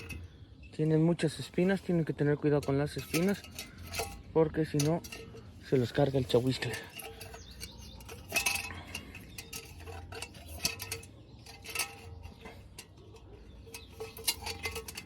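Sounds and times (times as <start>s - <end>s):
metallic clinks and knocks: 0.0s - 15.0s.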